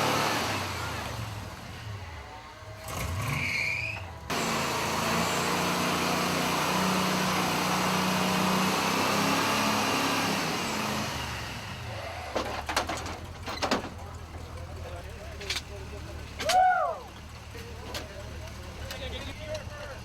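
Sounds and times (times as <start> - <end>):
truck engine running hard: 0.0 - 20.0.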